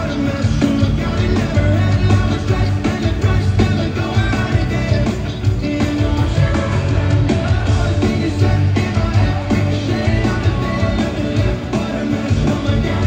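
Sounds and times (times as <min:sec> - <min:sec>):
lead vocal singing: 0:00.0 - 0:13.0
pop-rock band playing live: 0:00.0 - 0:13.0.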